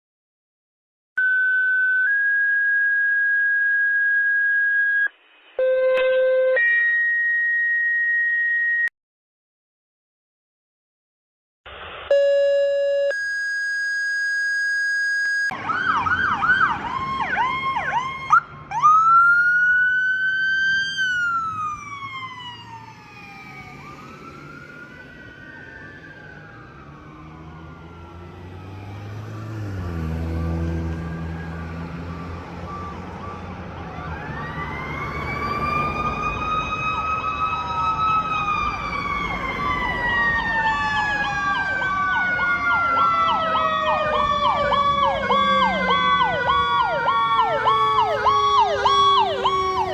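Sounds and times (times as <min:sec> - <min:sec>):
siren wails: 0:01.2 - 0:08.9, 0:12.1 - 0:49.9
siren yelp warbles: 0:01.2 - 0:08.9, 0:12.1 - 0:28.2, 0:29.9 - 0:49.9.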